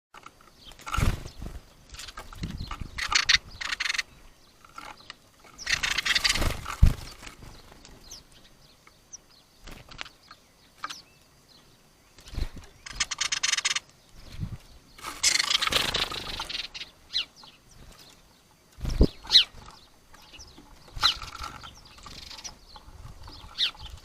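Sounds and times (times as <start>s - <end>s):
sparrows chirping: 0.2s - 24.0s
sparrows scuffling: 0.2s - 24.0s.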